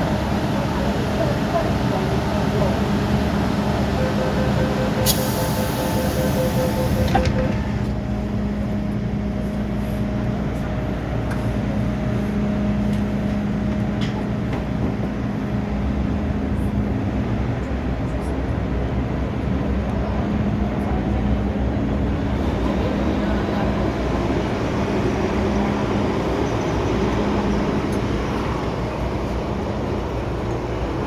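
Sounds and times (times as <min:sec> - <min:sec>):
train rumble on board: 0:00.0 - 0:31.0.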